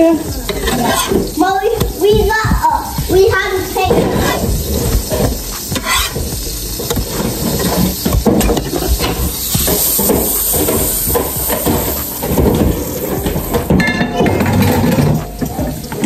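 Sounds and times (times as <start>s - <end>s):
cooking knocks and clatter: 0.0s - 16.0s
pancakes sizzling on griddle: 0.0s - 16.0s.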